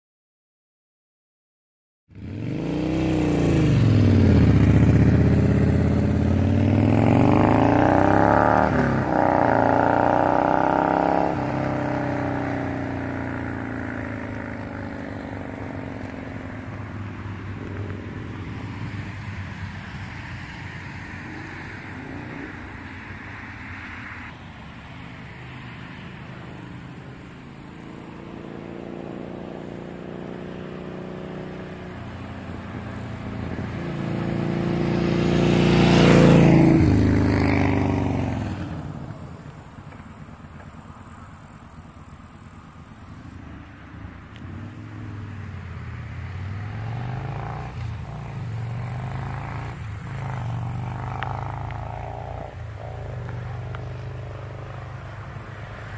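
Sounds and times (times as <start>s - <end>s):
motorcycle engine revving: 2.1s - 24.3s, 25.4s - 43.7s, 44.4s - 55.9s.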